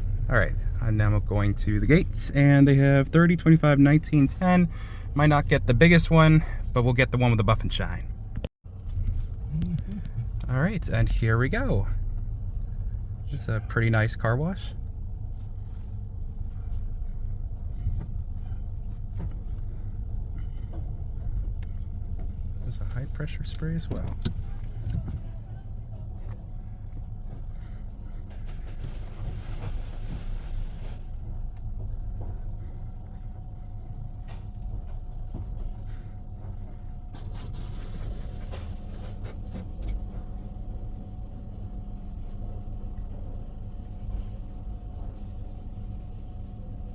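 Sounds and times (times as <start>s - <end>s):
car wash rumble and hum: 0.0s - 46.9s.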